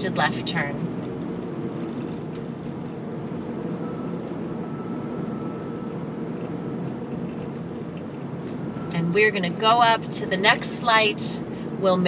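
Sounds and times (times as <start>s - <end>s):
car cabin road hum: 0.0s - 12.0s.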